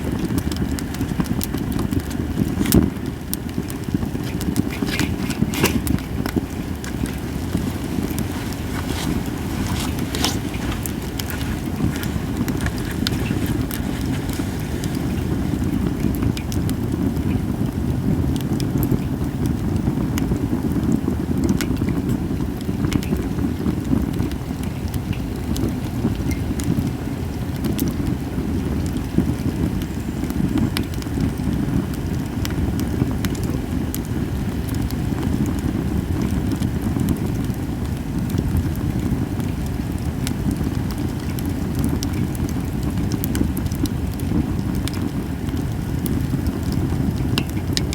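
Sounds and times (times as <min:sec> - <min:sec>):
campfire crackling: 0:00.0 - 0:47.9
low rumble of fire: 0:00.0 - 0:47.9.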